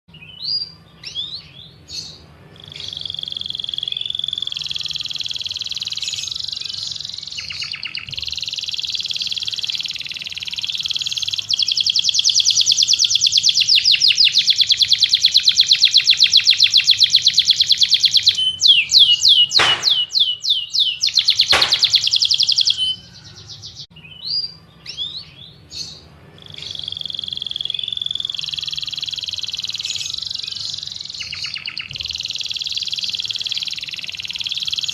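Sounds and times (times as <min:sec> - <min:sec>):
songbird trilling and chirping: 0:00.1 - 0:34.9.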